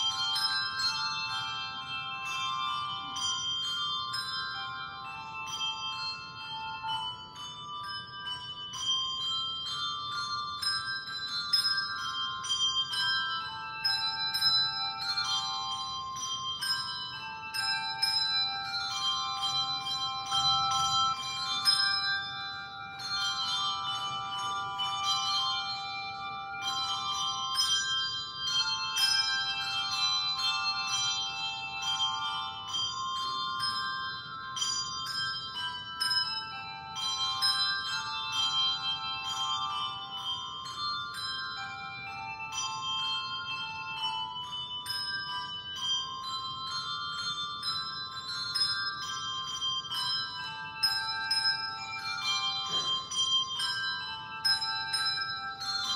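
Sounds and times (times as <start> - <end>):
handbells playing a tune: 0.0 - 55.9.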